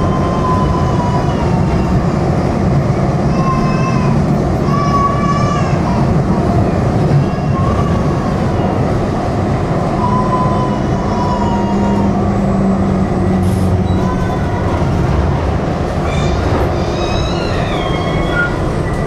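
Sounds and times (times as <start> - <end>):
tram wheels rumbling on rail: 0.0 - 19.0.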